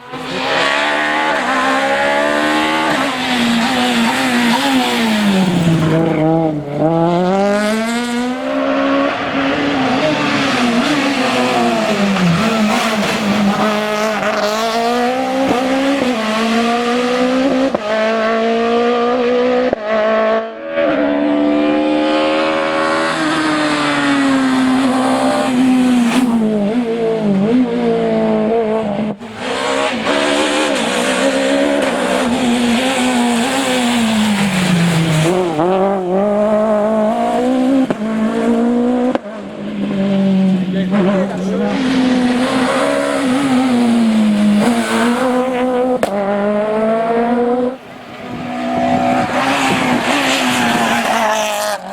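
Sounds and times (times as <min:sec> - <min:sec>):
rally car engine at full throttle: 0:00.0 - 0:51.9.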